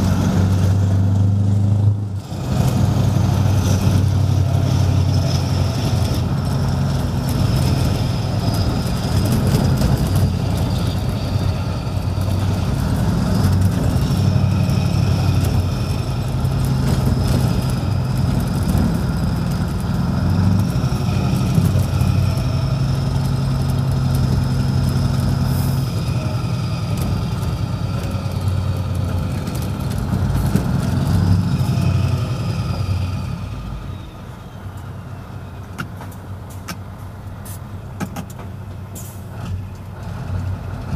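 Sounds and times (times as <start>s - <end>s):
truck diesel engine driving: 0.0s - 40.9s.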